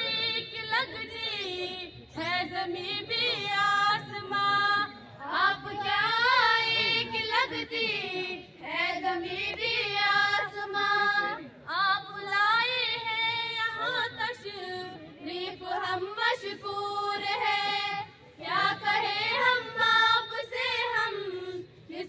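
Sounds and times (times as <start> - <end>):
women singing unaccompanied: 0.0 - 22.0.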